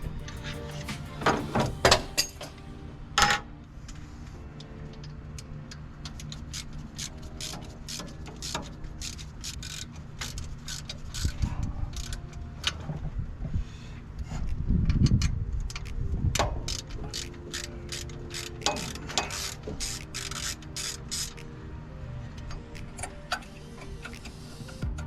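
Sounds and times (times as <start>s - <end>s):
background music: 0.0s - 14.4s, 15.0s - 25.0s.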